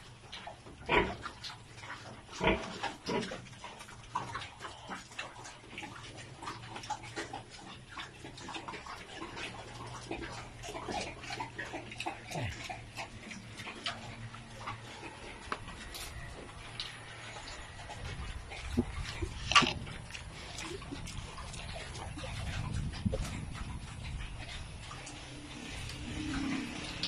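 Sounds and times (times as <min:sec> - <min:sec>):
pigs grunting: 0:00.0 - 0:27.0
pigs snuffling and crunching feed: 0:00.0 - 0:27.0.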